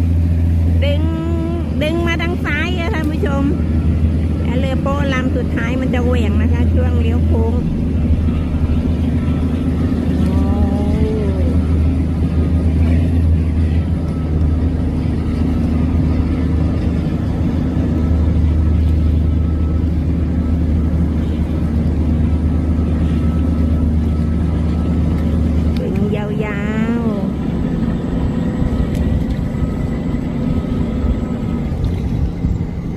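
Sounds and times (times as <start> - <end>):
boat engine low drone: 0.0 - 32.9.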